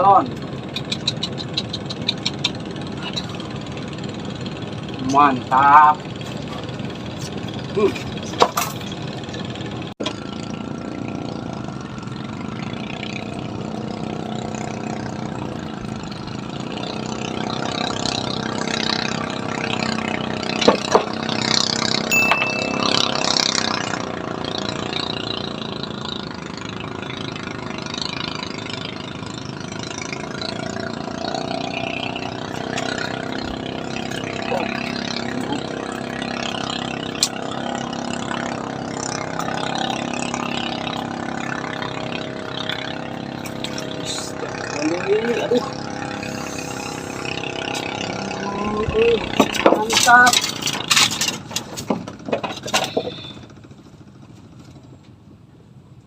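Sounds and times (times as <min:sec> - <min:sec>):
engine humming: 0:00.0 - 0:56.0.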